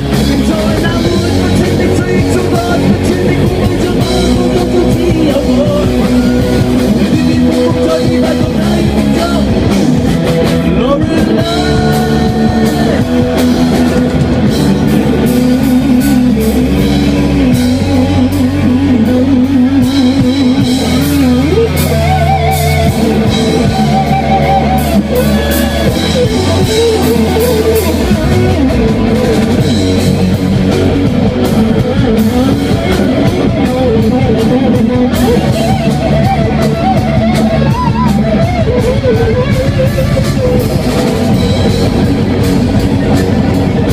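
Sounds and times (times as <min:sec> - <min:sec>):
drum kit: 0:00.0 - 0:43.9
electric guitars: 0:00.0 - 0:43.9
wavering lead melody: 0:00.0 - 0:43.9.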